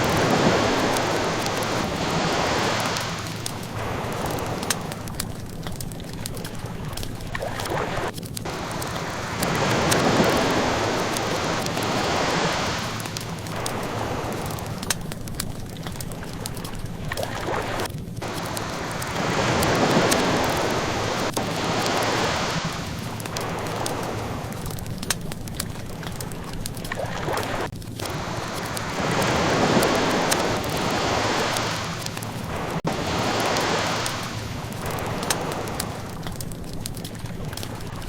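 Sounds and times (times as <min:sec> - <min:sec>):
ocean waves washing in: 0:00.0 - 0:38.0
wood fire crackling: 0:00.0 - 0:38.0.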